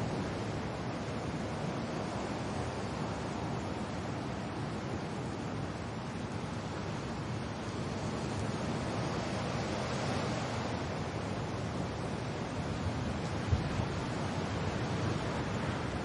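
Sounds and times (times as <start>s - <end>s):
wind and rain: 0.0s - 16.0s.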